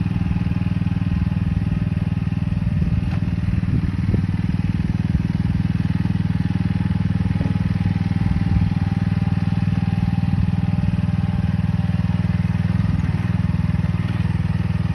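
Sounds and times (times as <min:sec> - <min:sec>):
excavator engine throbbing: 0:00.0 - 0:14.9.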